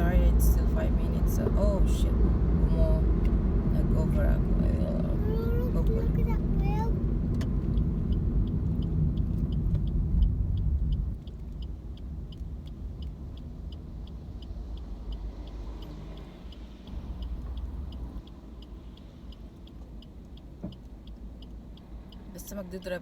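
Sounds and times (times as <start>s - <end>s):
road and engine rumble: 0.0s - 23.0s
turn signal ticking: 0.0s - 23.0s.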